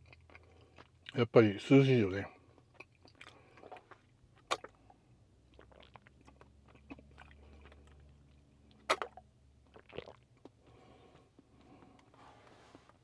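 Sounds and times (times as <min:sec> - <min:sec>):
person chewing: 0:00.0 - 0:01.2, 0:02.4 - 0:12.1.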